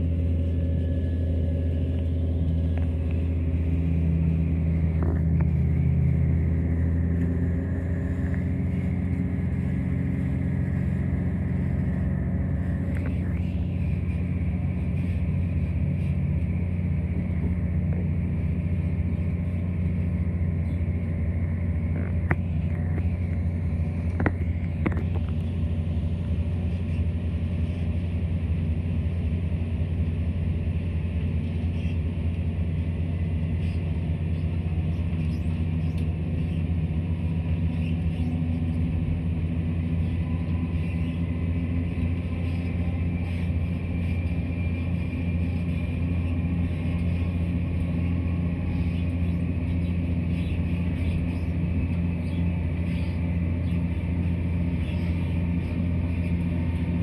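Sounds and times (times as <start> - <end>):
train diesel engine drone: 0.0 - 57.0
wheels on rails: 1.9 - 57.0.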